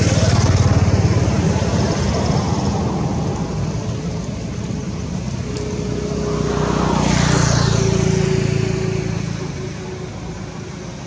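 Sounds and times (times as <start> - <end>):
engine rumble: 0.0 - 11.0
faint steady whine: 0.0 - 11.0.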